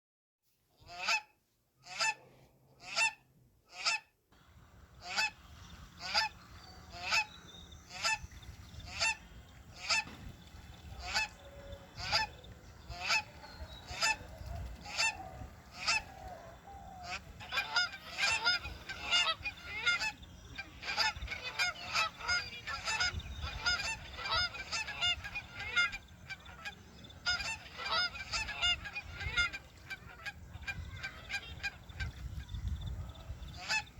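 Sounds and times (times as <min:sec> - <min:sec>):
geese honking: 0:01.8 - 0:02.2, 0:04.6 - 0:33.9.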